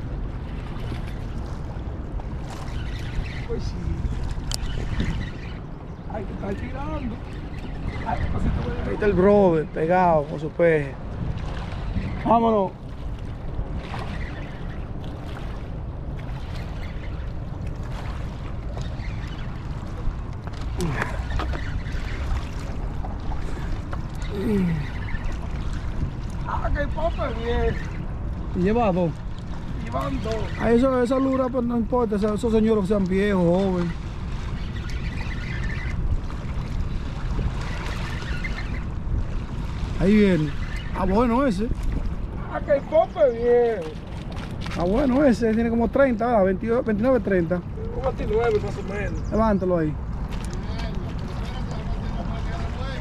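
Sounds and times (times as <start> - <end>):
river water washing: 0.0 - 53.0
wind buffeting microphone: 0.0 - 53.0.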